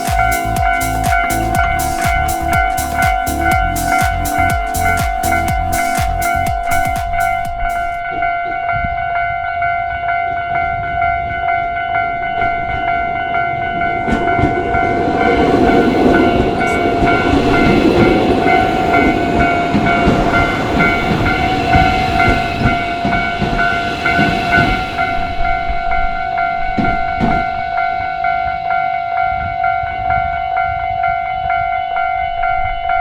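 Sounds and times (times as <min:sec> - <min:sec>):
railway crossing warning bell ringing: 0:00.0 - 0:33.0.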